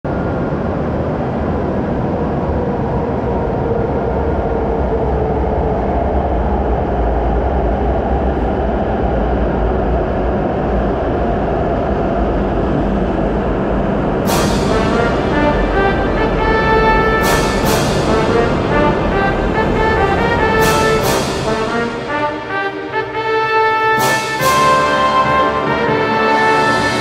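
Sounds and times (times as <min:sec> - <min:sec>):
train rumbling and humming: 0:00.1 - 0:27.0.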